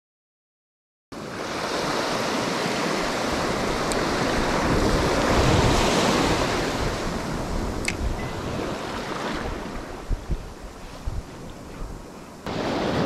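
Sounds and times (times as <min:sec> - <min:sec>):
surf washing up beach: 0:01.2 - 0:13.0.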